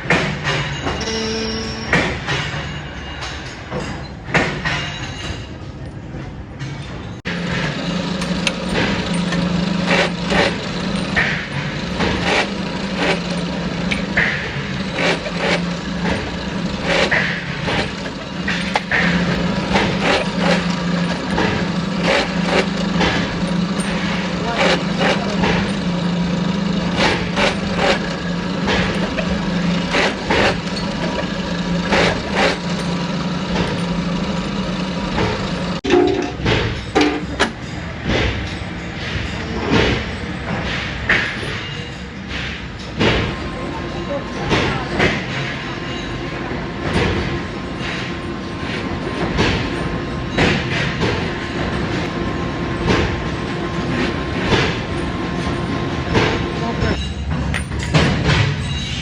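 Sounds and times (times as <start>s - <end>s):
metalworking machinery humming: 0.0s - 5.9s, 6.6s - 59.0s.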